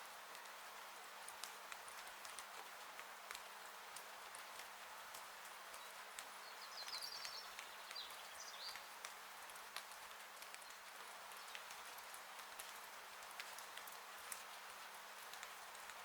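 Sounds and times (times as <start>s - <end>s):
rain on a roof: 0.0s - 16.0s.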